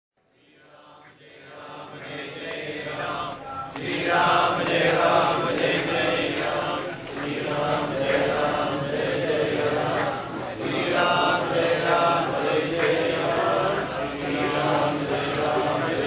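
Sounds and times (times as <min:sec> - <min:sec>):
voices chanting mantras: 0:00.2 - 0:16.0.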